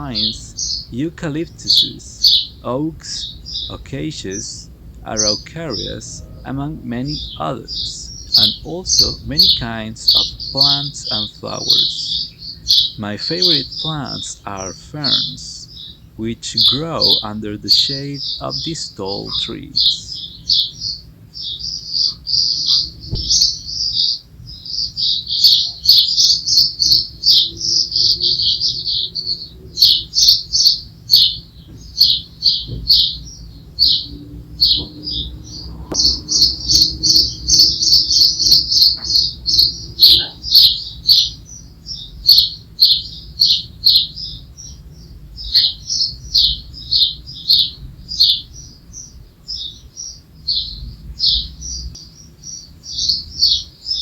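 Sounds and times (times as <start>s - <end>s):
rapid high bird chirps: 0.0s - 54.0s.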